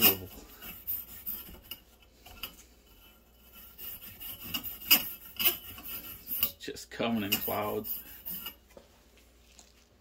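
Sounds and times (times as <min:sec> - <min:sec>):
wire brush scraping rusty tube: 0:00.0 - 0:08.7.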